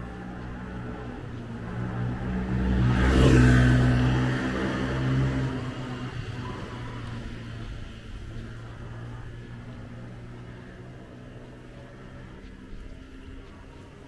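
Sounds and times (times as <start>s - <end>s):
motor vehicle hum: 0.0s - 14.0s.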